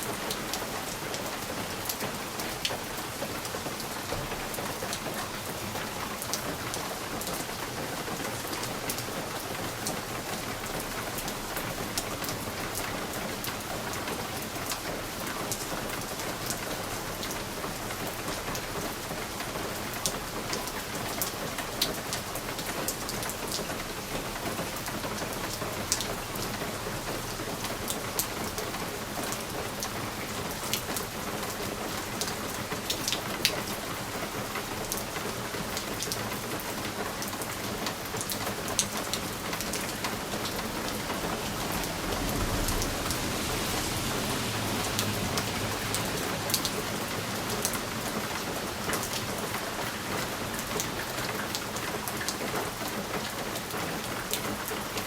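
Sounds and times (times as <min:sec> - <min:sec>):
rain pattering on a window: 0:00.0 - 0:55.0.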